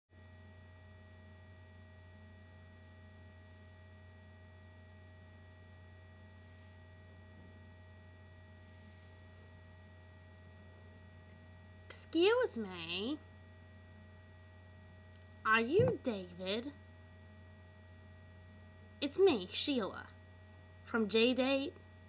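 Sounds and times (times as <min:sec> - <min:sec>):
low electrical hum: 0:00.1 - 0:22.0.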